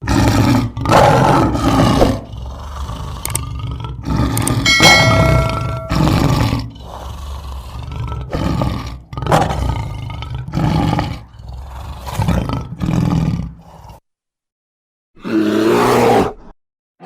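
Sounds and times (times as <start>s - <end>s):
rough animal roars: 0.0s - 14.0s, 15.2s - 16.5s.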